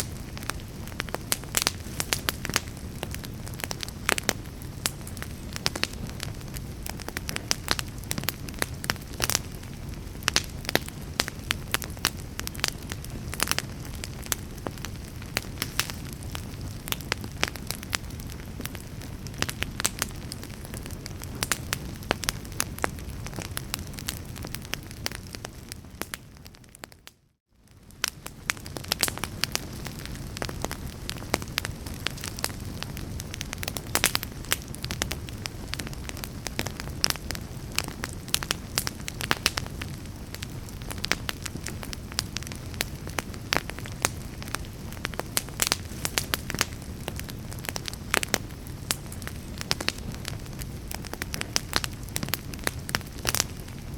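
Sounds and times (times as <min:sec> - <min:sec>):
low rushing of fire: 0:00.0 - 0:27.0, 0:27.6 - 0:53.9
wood fire crackling and popping: 0:00.0 - 0:53.9.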